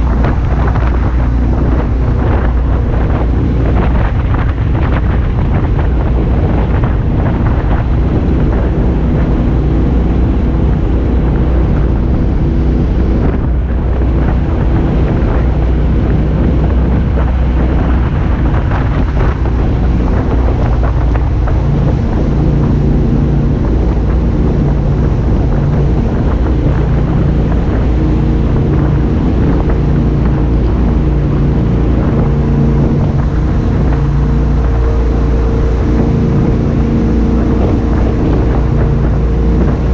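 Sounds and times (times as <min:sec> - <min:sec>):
boat engines running: 0:00.0 - 0:39.9
wind buffeting microphone: 0:00.0 - 0:39.9.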